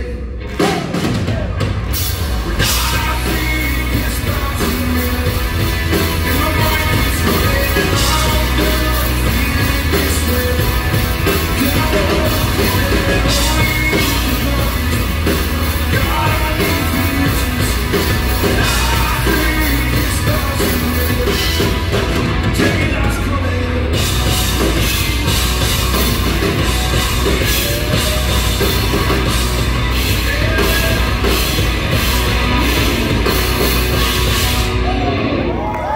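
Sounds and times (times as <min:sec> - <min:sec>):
man singing lead vocal: 0:00.0 - 0:33.6
drum kit: 0:00.0 - 0:35.9
electric bass: 0:00.0 - 0:35.9
live rock band playing: 0:00.0 - 0:35.9.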